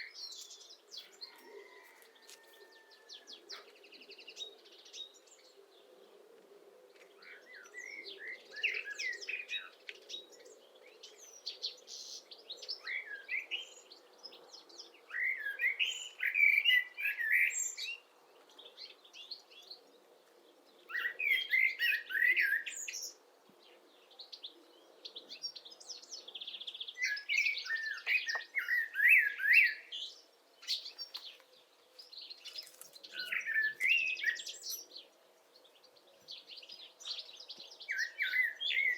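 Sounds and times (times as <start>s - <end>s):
songbirds twittering: 0.0s - 38.9s.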